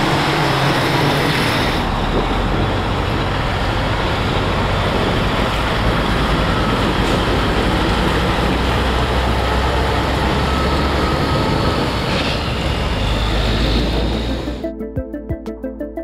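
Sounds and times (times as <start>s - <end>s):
truck diesel engine rumbling: 0.0s - 14.6s.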